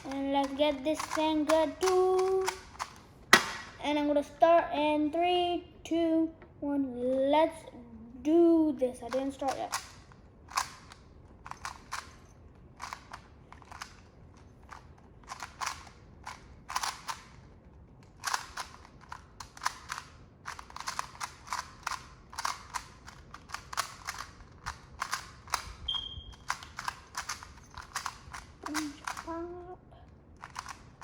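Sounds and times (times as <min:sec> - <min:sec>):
speed cube clacking: 0:00.0 - 0:03.8, 0:09.1 - 0:29.5, 0:30.2 - 0:31.0.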